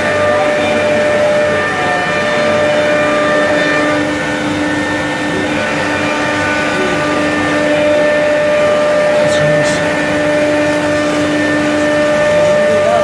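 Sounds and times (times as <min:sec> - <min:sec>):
lower machine tone: 0:00.0 - 0:13.0
noisy hum: 0:00.0 - 0:13.0
router machine whine: 0:00.0 - 0:13.0.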